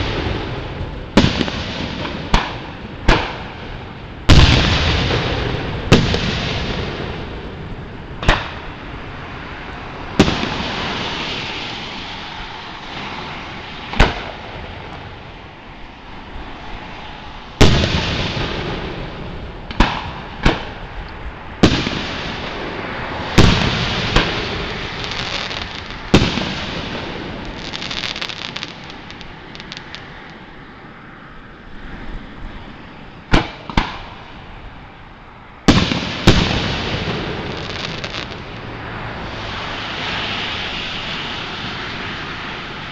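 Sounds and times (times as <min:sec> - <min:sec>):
fireworks booming: 0:00.0 - 0:09.3, 0:10.0 - 0:15.3, 0:17.6 - 0:30.1, 0:33.3 - 0:34.4, 0:35.7 - 0:42.9
fireworks crackling: 0:00.0 - 0:15.5, 0:16.2 - 0:30.4, 0:35.7 - 0:42.9.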